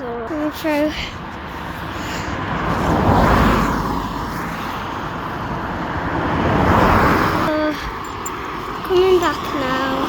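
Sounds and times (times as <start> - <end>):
vehicles passing by: 0.0 - 10.0.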